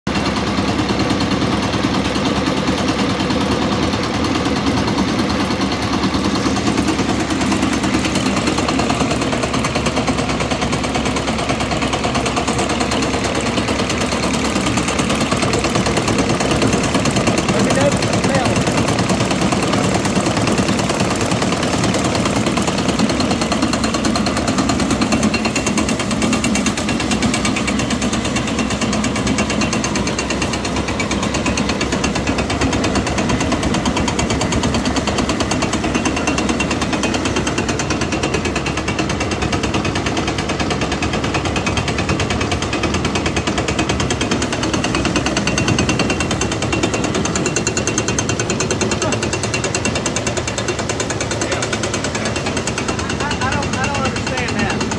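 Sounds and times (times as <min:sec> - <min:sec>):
grist mill rattling: 0:00.1 - 0:54.9.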